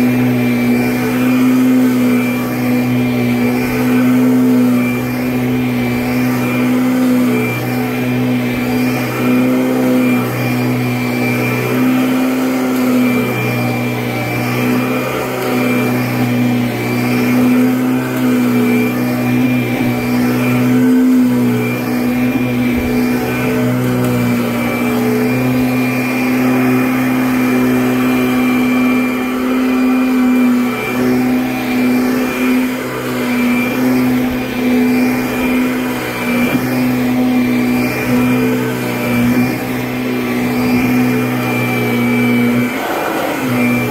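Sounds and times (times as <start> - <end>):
upright vacuum running on carpet: 0.0 - 43.9.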